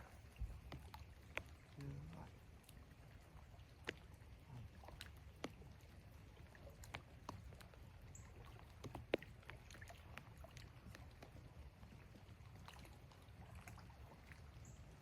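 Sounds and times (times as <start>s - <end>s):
raindrops tapping on a surface: 0.0s - 15.0s.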